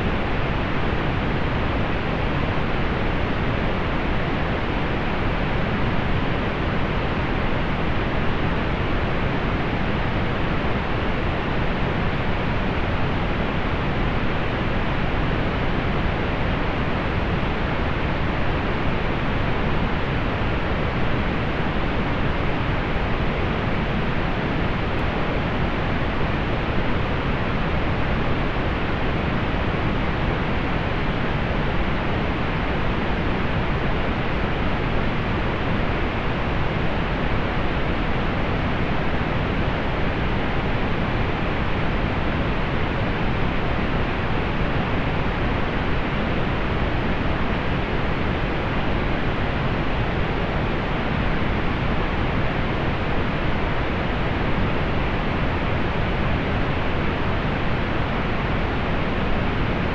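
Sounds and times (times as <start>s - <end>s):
steady pink noise: 0.0s - 59.9s.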